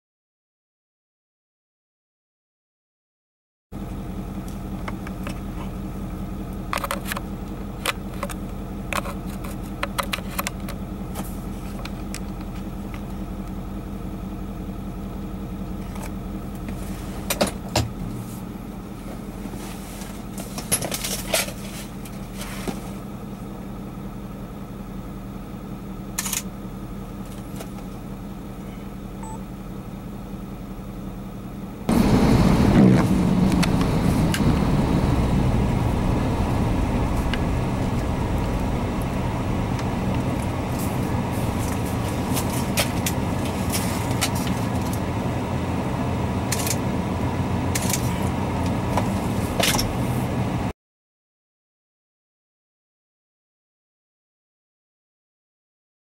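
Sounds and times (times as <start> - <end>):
vehicle engine idling: 3.8 - 50.7.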